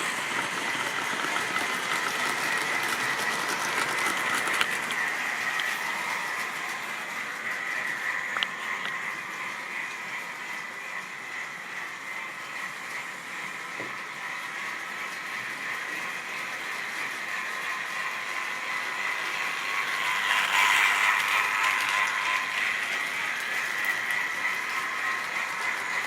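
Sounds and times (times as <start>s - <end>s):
model train motor whine: 0.0s - 26.0s.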